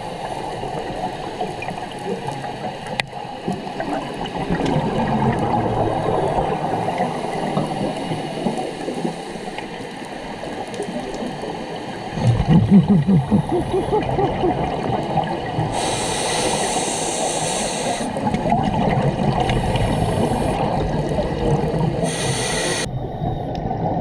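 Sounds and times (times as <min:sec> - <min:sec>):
air bubbles gurgling underwater: 0:00.2 - 0:09.2, 0:10.4 - 0:17.1, 0:18.0 - 0:24.0.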